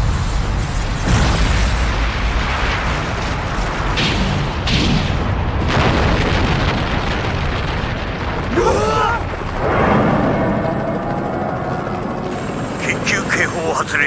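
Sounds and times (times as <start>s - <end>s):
heavy rumble and booming: 0.0s - 14.0s.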